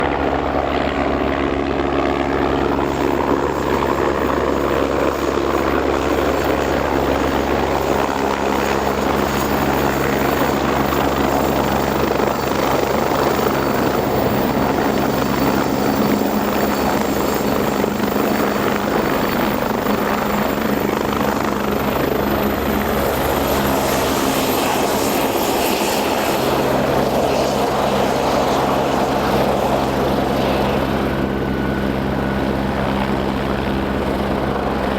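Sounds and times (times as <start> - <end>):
helicopter rotor beat: 0.0 - 34.9
high turbine whine: 0.0 - 34.9.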